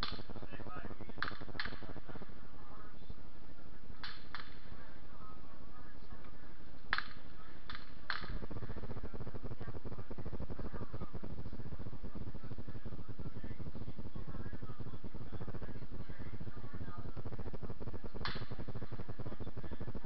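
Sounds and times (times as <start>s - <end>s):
low rumble and hiss: 0.0s - 20.0s.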